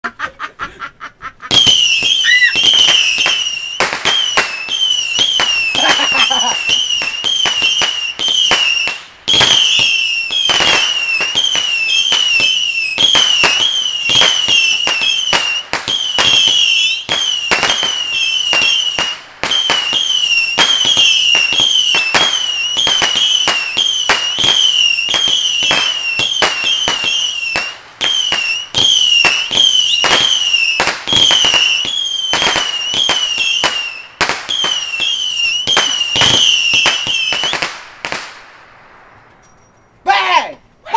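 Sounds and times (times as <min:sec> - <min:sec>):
firework whistling shots: 0:01.5 - 0:39.8.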